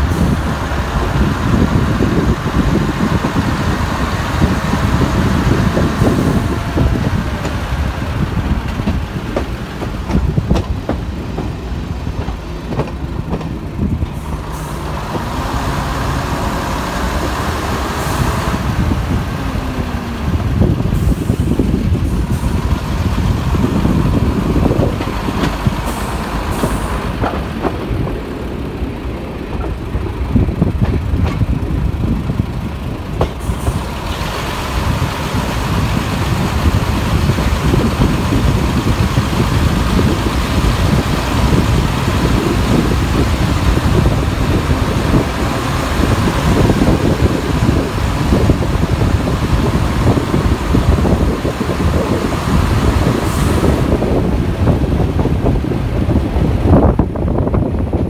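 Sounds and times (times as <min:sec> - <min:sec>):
railcar diesel engines: 0:00.0 - 0:58.0
wheels clicking over rail joints: 0:00.0 - 0:58.0.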